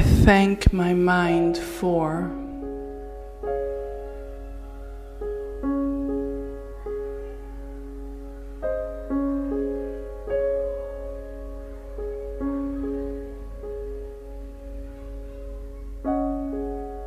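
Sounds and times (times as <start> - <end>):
soft piano notes: 0.0 - 17.0.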